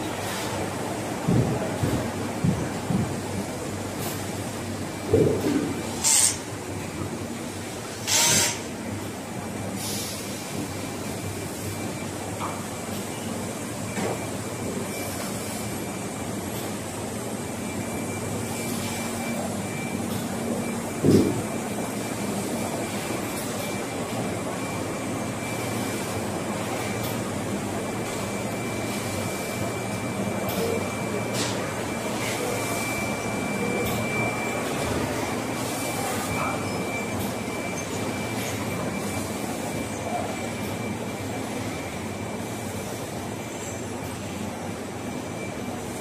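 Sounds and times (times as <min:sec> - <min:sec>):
assembly line machinery hum: 0:00.0 - 0:46.0.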